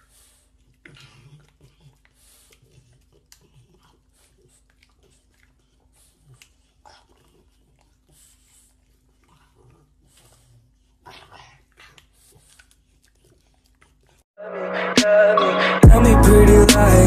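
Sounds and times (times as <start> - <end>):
puppy chewing carrot: 0.1 - 14.2.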